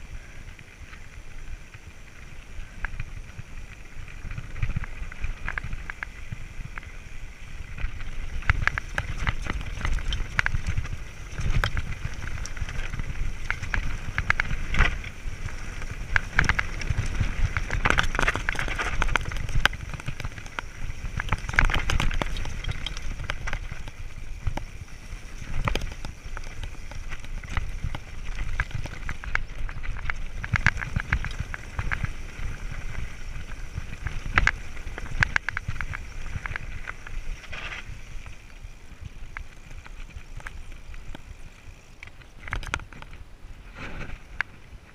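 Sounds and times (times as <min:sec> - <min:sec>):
bike rattling and clattering: 0:00.0 - 0:44.9
wind rumble on microphone: 0:00.0 - 0:44.9
tyres crunching on stones: 0:02.6 - 0:44.9.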